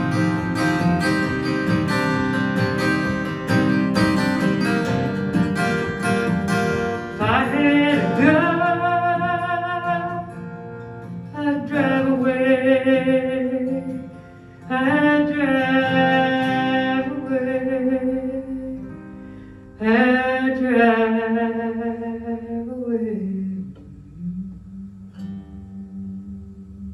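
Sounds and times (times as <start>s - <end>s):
acoustic guitar strumming: 0.0s - 26.9s.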